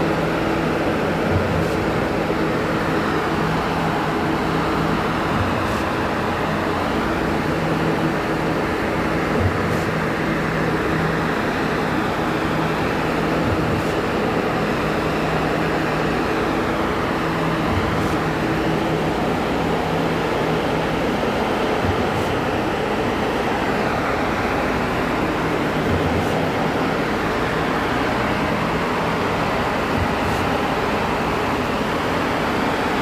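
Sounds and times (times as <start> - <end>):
concrete machinery drone: 0.0 - 33.0.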